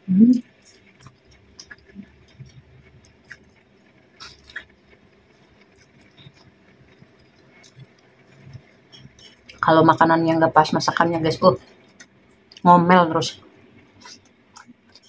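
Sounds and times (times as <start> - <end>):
chewing food: 0.4 - 9.7, 11.6 - 12.7, 13.4 - 15.0.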